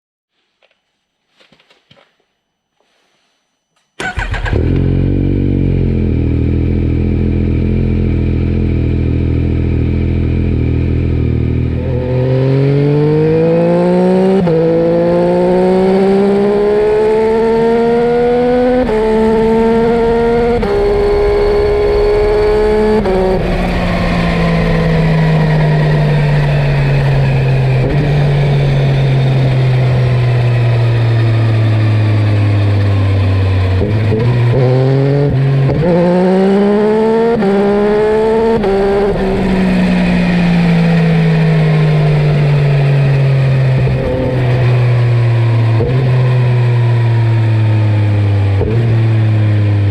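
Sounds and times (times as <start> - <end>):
motorcycle engine revving: 4.0 - 49.9.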